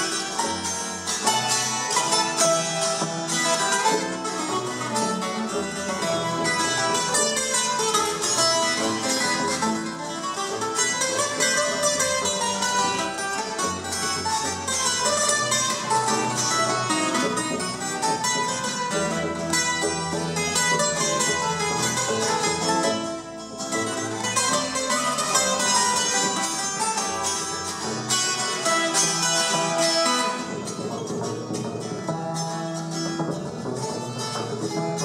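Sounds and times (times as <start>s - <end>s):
double bass line: 0.0s - 35.0s
plucked strings fast runs: 0.0s - 35.0s.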